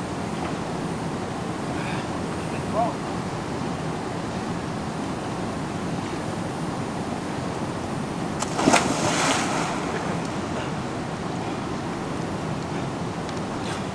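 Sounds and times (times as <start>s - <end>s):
river water rushing: 0.0s - 13.9s.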